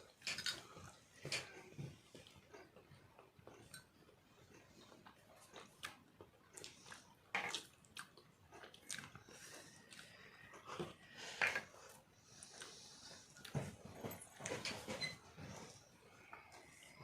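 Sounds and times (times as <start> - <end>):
people chewing: 0.0 - 14.7.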